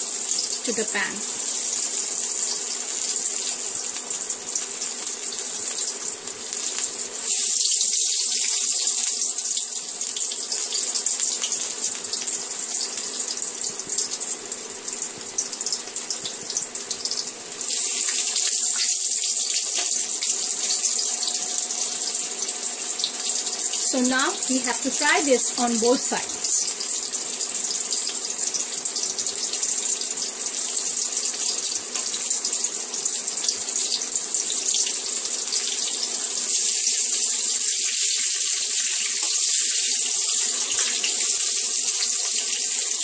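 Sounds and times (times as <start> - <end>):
eggplant slices sizzling in oil: 0.0 - 43.0.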